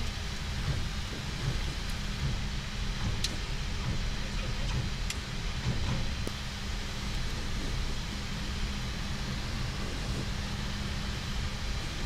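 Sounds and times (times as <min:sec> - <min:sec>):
aircraft cockpit low rumble: 0:00.0 - 0:12.0.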